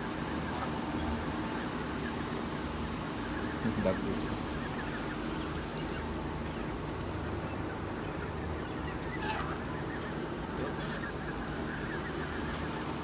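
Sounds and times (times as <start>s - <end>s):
geese calling: 0.0s - 13.0s
goose honk: 0.0s - 13.0s.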